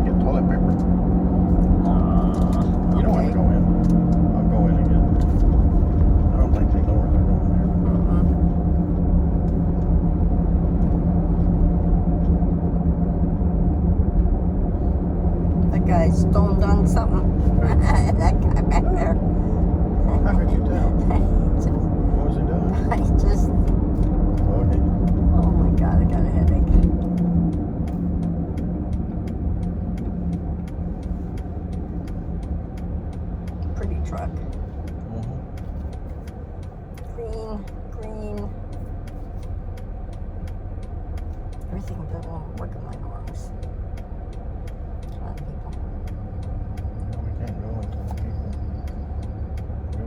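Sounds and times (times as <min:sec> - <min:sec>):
car engine droning: 0:00.0 - 0:50.0
faint regular ticking: 0:00.1 - 0:50.0.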